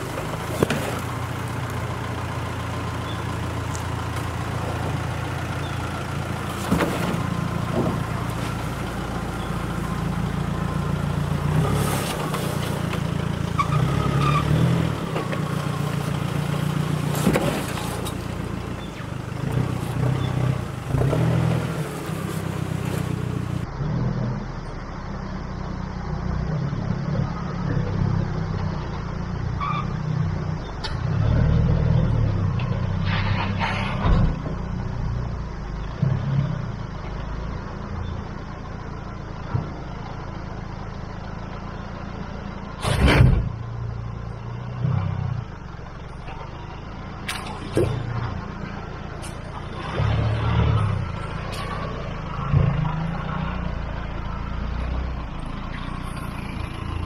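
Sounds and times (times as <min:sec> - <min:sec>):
vehicle engine at low revs: 0:00.0 - 0:57.0.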